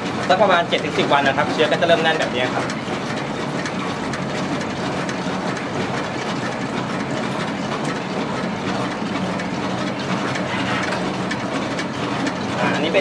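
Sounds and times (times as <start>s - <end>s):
shaker machine humming and rattling: 0.0s - 13.0s.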